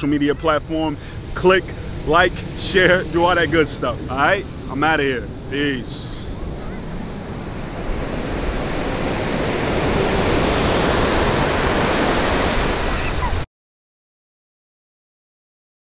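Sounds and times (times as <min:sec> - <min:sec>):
ocean waves breaking on beach: 0:00.0 - 0:13.5.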